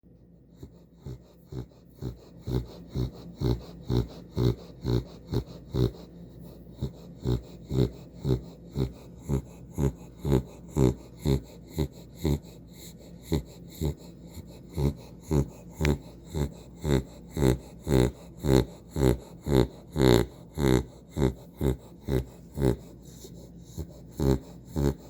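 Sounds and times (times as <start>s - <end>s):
dog snoring: 0.4s - 25.0s.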